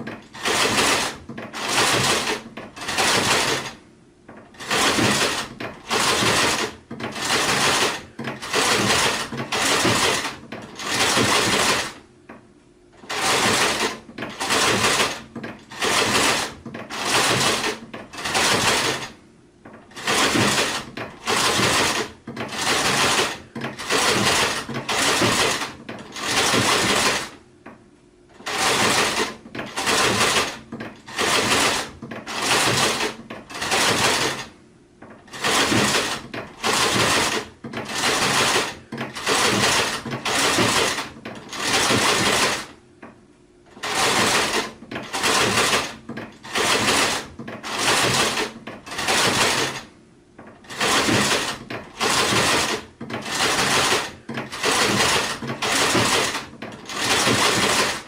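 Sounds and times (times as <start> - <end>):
sewing machine stitching: 0.0 - 12.0, 13.0 - 27.4, 28.3 - 42.8, 43.7 - 58.0.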